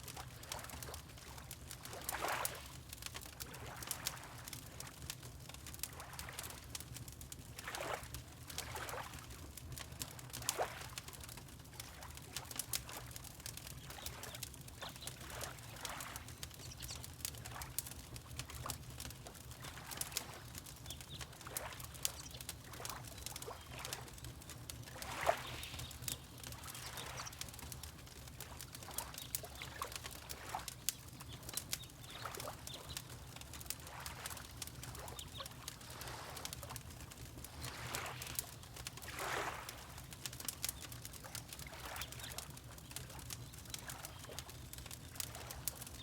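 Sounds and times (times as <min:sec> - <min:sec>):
water lapping and splashing: 0:00.0 - 0:46.0
wood fire crackling: 0:00.0 - 0:46.0.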